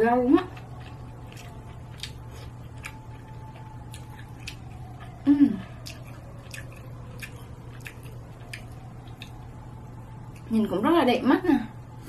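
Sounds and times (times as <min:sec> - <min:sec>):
person chewing: 0:00.5 - 0:10.5.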